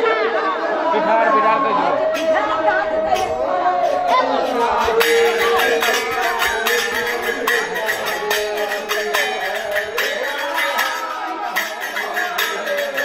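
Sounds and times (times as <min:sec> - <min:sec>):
music with percussion beat: 0:02.1 - 0:13.0.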